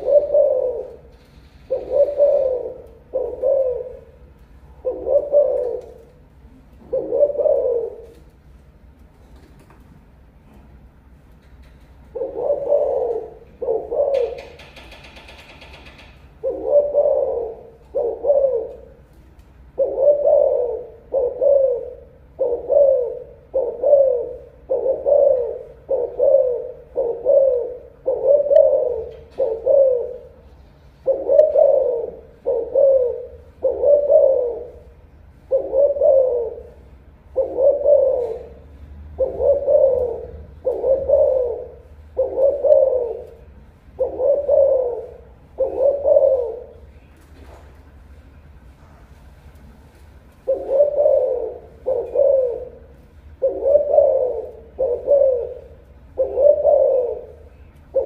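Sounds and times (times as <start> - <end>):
dove cooing: 0.0 - 8.5, 12.0 - 47.7, 50.1 - 58.0.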